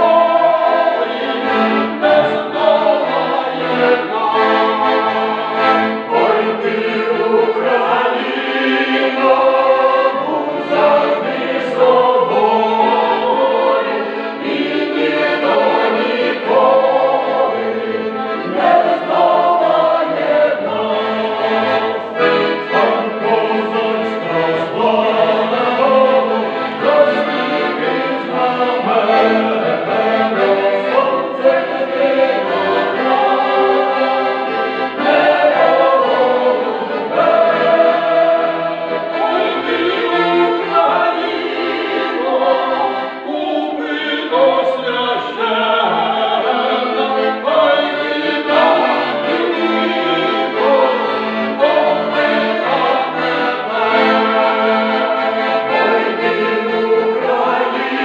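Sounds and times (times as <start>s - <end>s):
accordion: 0.0s - 58.0s
mixed choir singing: 0.0s - 58.0s.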